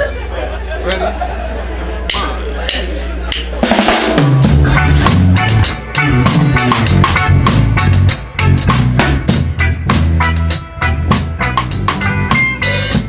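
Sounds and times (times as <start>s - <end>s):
live reggae band playing: 0.0s - 13.0s
drum kit kick snare and cymbals: 2.1s - 13.0s.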